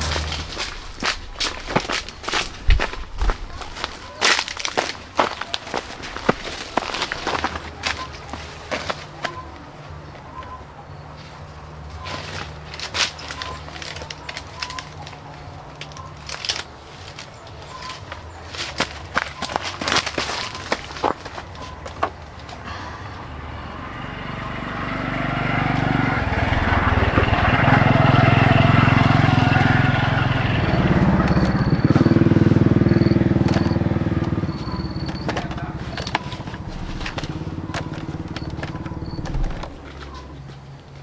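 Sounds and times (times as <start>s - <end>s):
vehicle engine passing by: 0.0s - 15.8s, 21.5s - 41.0s.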